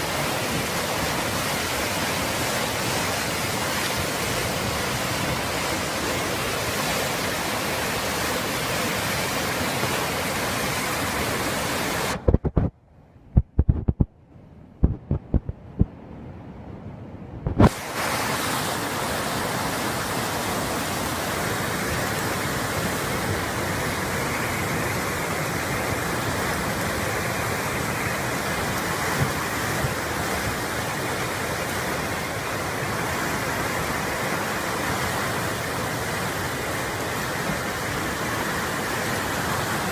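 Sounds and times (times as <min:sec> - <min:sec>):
floodwater roaring: 0:00.0 - 0:12.7, 0:17.3 - 0:39.9.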